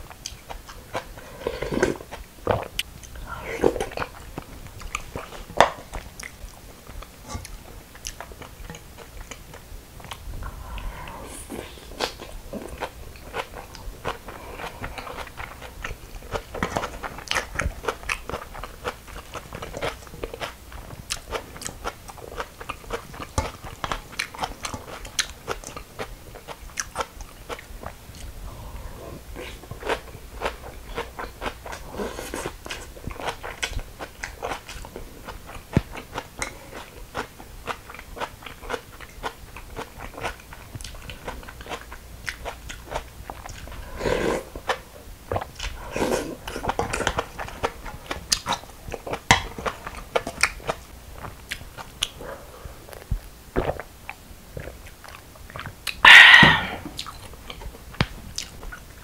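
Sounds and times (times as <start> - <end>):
chewing crisp greens: 0.0 - 59.0.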